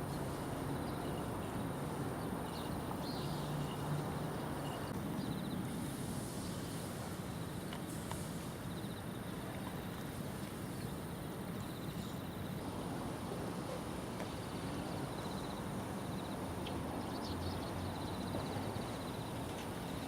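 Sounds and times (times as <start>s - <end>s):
riverside background noise: 0.0s - 20.0s.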